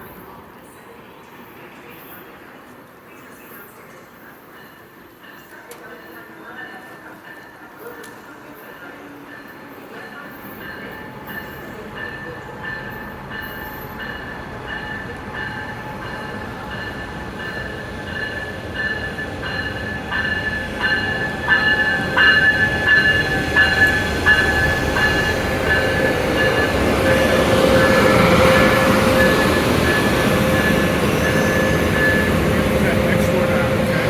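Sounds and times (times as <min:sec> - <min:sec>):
train bell ringing: 0:03.2 - 0:34.0
train wheels and brakes squealing: 0:04.2 - 0:34.0.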